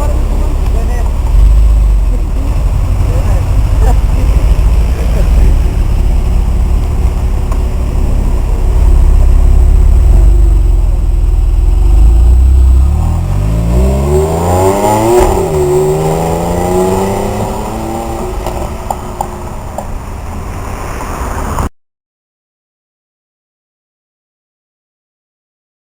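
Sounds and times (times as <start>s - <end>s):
car engine deep rumble: 0.0s - 21.7s
engine revving: 0.0s - 21.7s.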